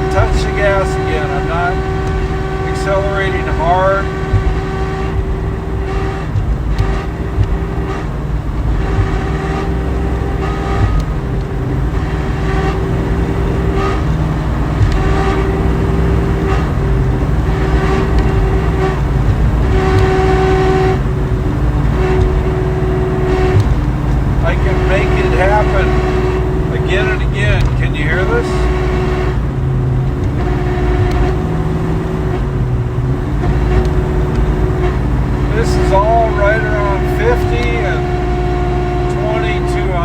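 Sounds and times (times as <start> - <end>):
car engine: 0.0 - 40.0
rear axle whine: 0.0 - 40.0
road rumble: 0.0 - 40.0.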